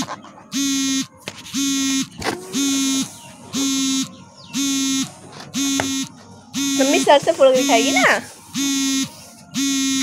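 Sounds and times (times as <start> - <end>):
electronic buzzer beeping: 0.5 - 10.0.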